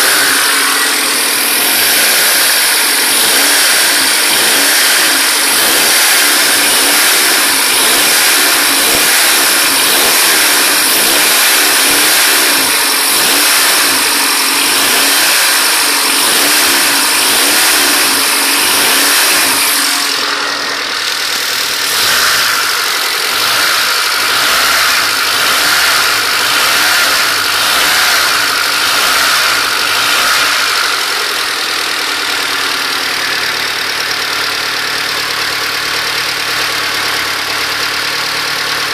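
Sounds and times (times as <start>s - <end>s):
car engine running: 0.0s - 38.9s
engine clacking: 0.0s - 38.9s.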